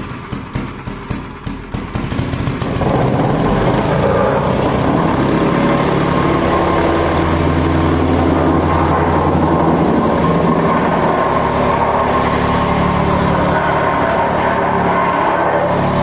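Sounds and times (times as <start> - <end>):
earth compactor motor running: 0.0 - 16.0.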